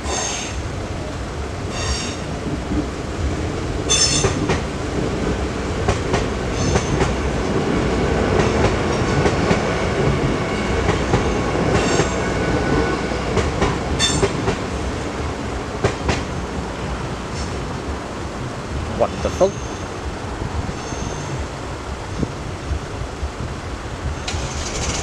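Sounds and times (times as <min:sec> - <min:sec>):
wheels clacking over rail joints: 0:00.0 - 0:22.4
train rumbling past: 0:00.0 - 0:25.0.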